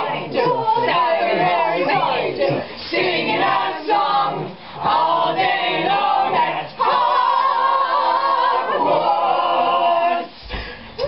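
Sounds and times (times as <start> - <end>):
group singing unaccompanied: 0.0 - 10.5.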